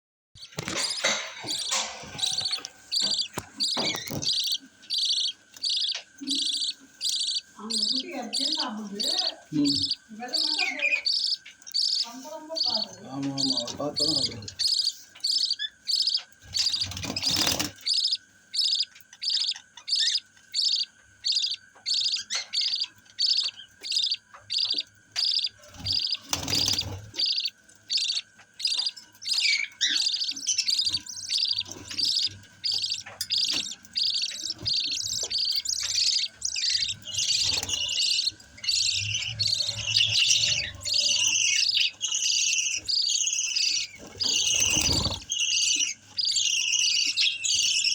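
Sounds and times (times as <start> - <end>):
bird chicks chirping: 0.4 - 47.9.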